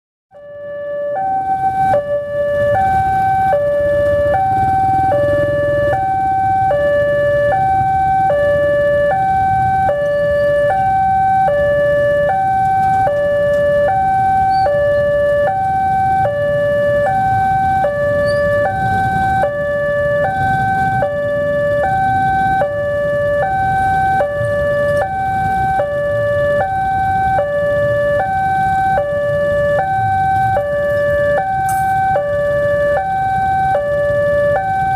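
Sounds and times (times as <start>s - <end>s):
level crossing two-tone alarm: 0.3s - 34.9s
idling engines rumble: 1.3s - 34.9s.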